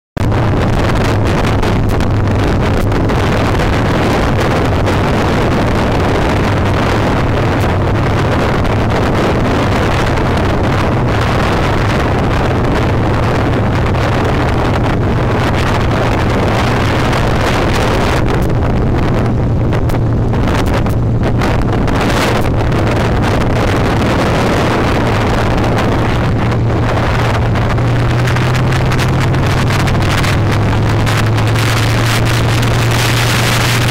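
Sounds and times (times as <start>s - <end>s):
motorcycle engine running: 0.2s - 33.9s
wind rushing over microphone: 0.2s - 33.9s.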